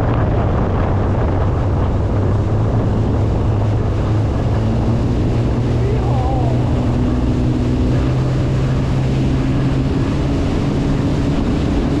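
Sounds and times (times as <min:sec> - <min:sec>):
jet ski engine running: 0:00.0 - 0:12.0
water and wind noise: 0:00.0 - 0:12.0.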